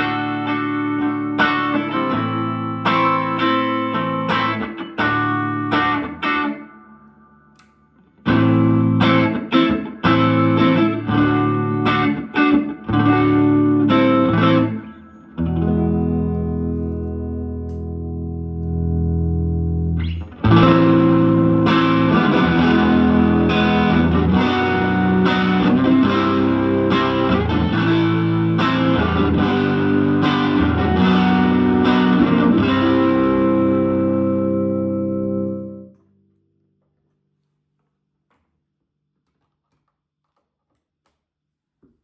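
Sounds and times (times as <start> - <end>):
electric guitar chords: 0.0 - 36.1.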